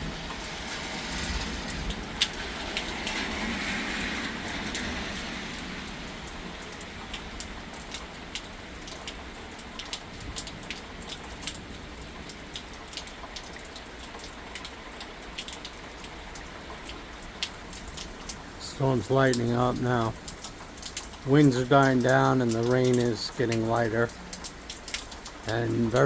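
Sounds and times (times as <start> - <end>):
rain falling: 0.0 - 26.0
raindrops ticking close by: 0.0 - 26.0.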